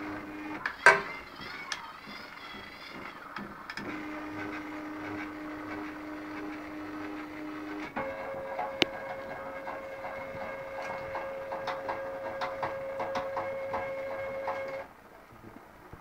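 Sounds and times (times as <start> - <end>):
rapid irregular motor clicking: 0.0 - 14.9.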